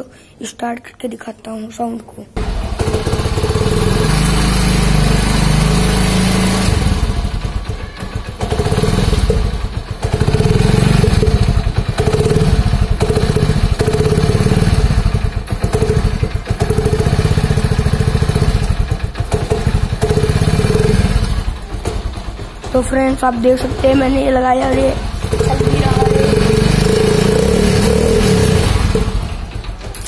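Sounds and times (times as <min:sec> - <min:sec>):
motorcycle exhaust pulsing: 0:02.4 - 0:30.0.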